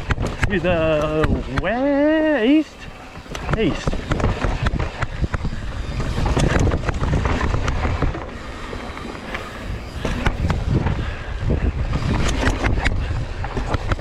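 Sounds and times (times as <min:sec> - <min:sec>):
bike clicks and knocks: 0:00.0 - 0:14.0
wind buffeting microphone: 0:00.0 - 0:14.0.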